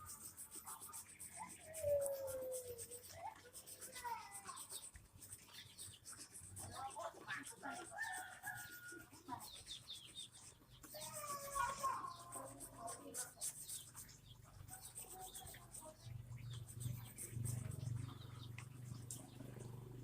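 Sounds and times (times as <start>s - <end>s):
spices grated on kitchen grater: 0.0s - 17.9s.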